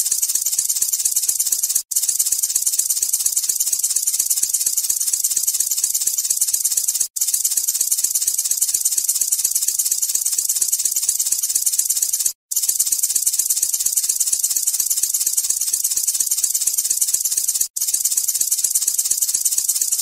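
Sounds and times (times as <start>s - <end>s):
snake hissing rattle: 0.0s - 20.0s.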